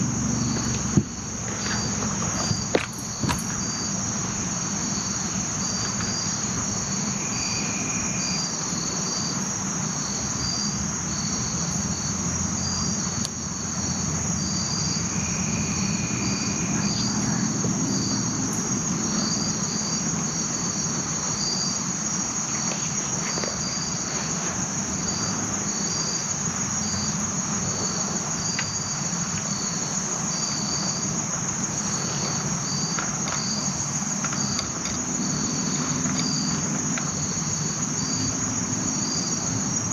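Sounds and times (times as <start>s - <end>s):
insect chirp: 0.0s - 39.9s
insects buzzing: 0.0s - 39.9s.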